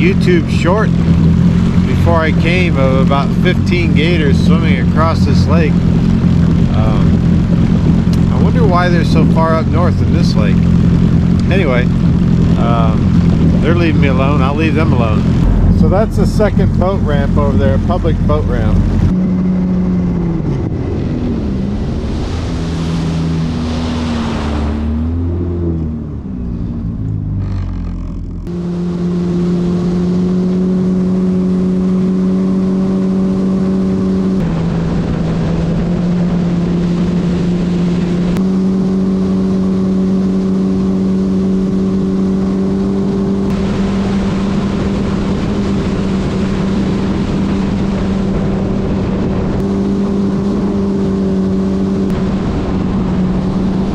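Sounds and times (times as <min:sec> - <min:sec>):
personal watercraft engine running: 0:00.0 - 0:53.9.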